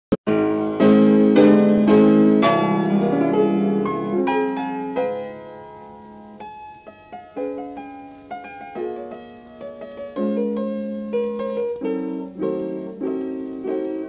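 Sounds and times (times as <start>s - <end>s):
piano music: 0.2s - 14.0s.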